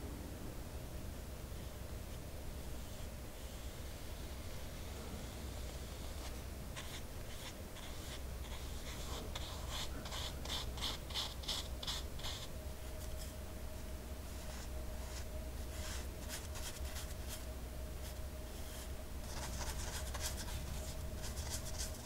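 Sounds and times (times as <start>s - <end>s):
paintbrush strokes on paper: 1.6s - 13.4s, 14.3s - 22.0s.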